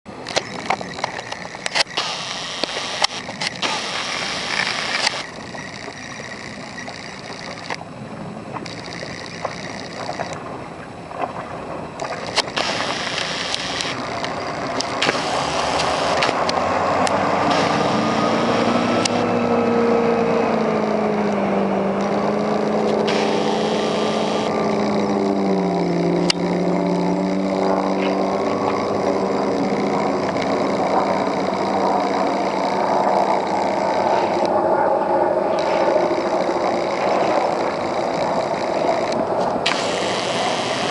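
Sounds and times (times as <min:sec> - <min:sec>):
boat engine running at speed: 0:00.1 - 0:40.9
wind and water rushing: 0:00.1 - 0:40.9.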